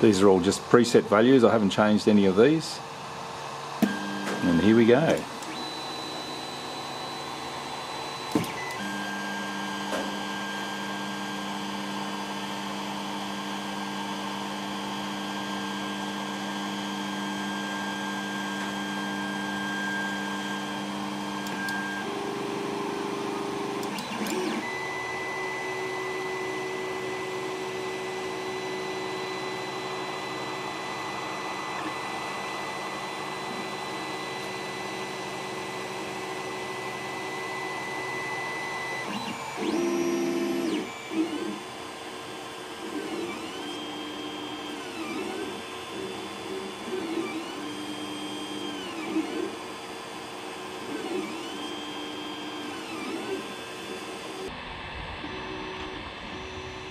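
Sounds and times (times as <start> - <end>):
stepper motors whining: 3.7 - 56.9.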